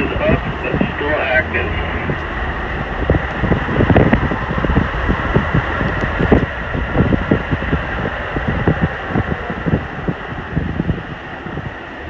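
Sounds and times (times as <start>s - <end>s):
road and engine noise: 0.0s - 12.0s
wind buffeting microphone: 0.0s - 12.0s.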